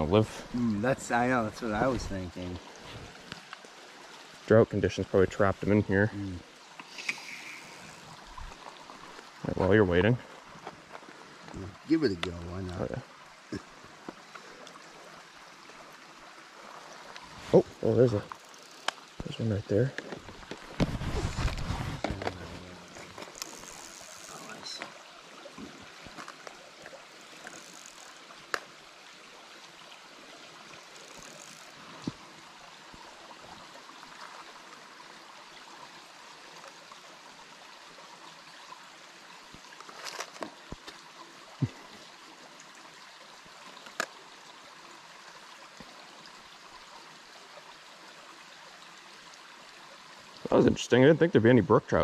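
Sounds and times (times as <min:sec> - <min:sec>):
stream trickling: 0:00.0 - 0:52.0.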